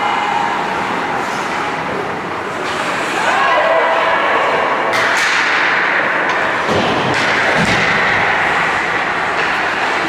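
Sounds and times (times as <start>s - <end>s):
skating and arena noise: 0.0s - 10.0s.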